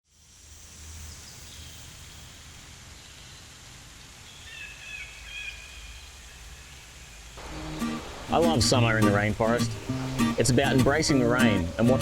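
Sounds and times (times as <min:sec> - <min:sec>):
rainforest background hiss: 0:00.0 - 0:12.0.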